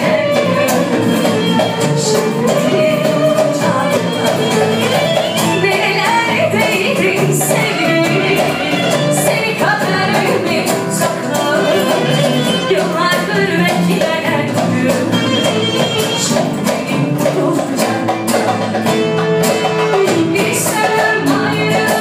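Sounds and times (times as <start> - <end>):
woman singing: 0.0 - 19.2, 19.8 - 22.0
strummed acoustic guitar: 0.0 - 22.0.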